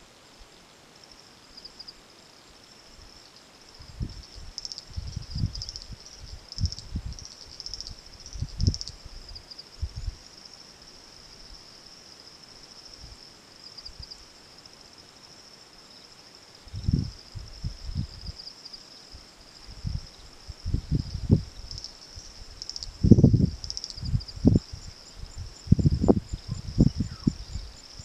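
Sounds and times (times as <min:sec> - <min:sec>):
insects trilling: 0:01.0 - 0:28.0.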